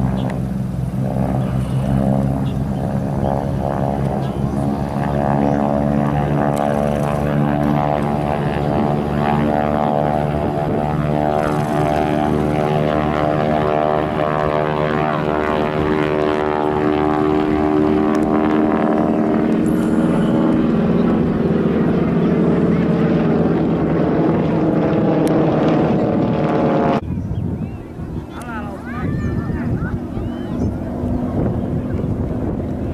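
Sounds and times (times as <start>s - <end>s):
propeller planes droning overhead: 0.0s - 32.9s.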